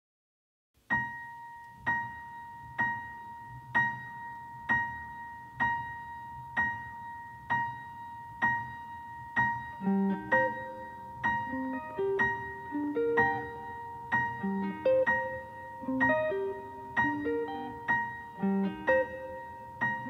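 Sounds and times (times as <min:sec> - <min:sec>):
piano repeating high note: 0:00.9 - 0:20.0
soft low piano notes: 0:00.9 - 0:20.0.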